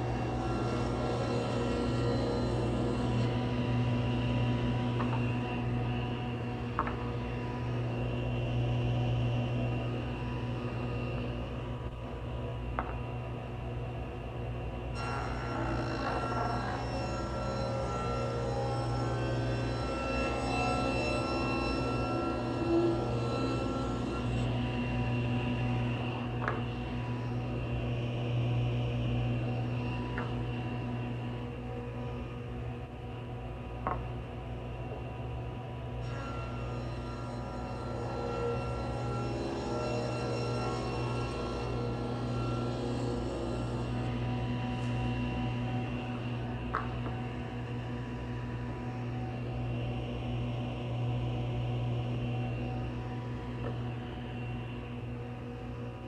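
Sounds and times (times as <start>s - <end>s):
woodworking machine humming: 0.0s - 11.8s, 14.9s - 33.0s, 36.0s - 56.0s.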